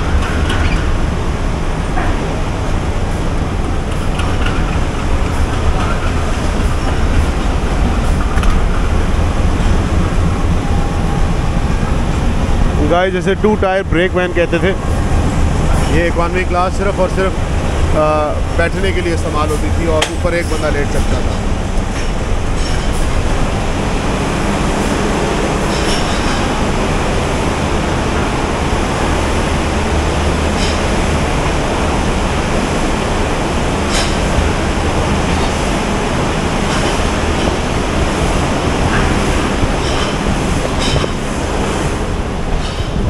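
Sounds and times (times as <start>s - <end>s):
passenger train rumbling: 0.0s - 43.0s.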